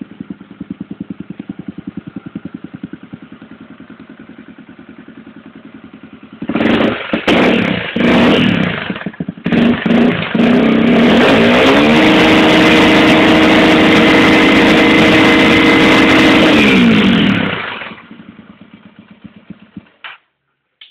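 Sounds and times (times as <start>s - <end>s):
motorcycle engine idling and revving: 0.0s - 20.2s.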